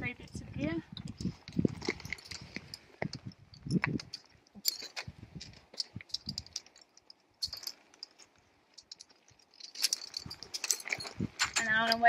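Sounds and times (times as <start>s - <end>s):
metal carabiners clinking: 1.0s - 12.0s.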